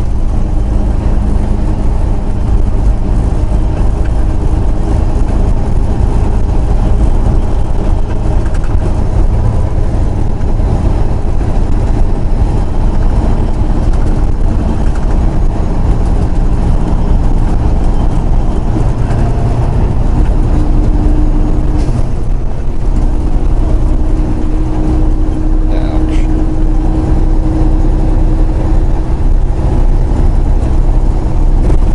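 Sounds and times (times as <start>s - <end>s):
road noise: 0.0s - 31.9s
truck engine drone: 0.0s - 31.9s.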